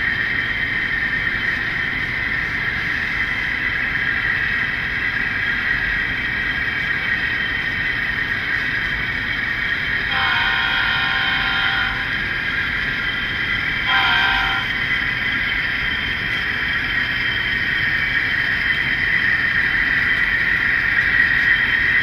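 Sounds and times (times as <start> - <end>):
model locomotive engine sound: 0.0 - 22.0.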